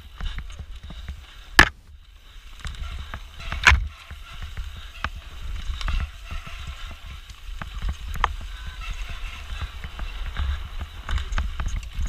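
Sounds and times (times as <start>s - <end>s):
bike chain and frame rattling: 0.0s - 12.0s.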